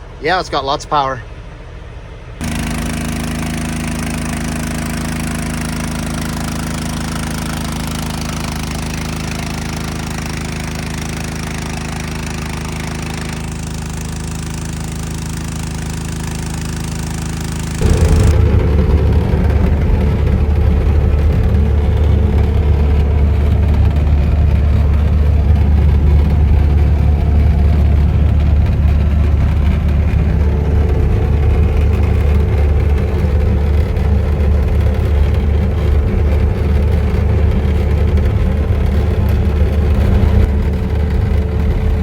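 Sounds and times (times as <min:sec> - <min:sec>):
steady engine whine: 0:00.0 - 0:42.0
vehicle engine droning: 0:02.2 - 0:42.0.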